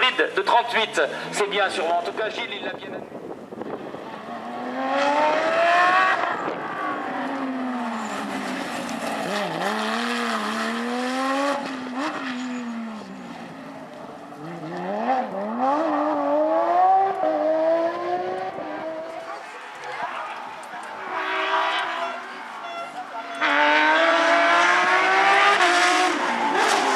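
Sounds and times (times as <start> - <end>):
rally car engine at full throttle: 3.0 - 26.9.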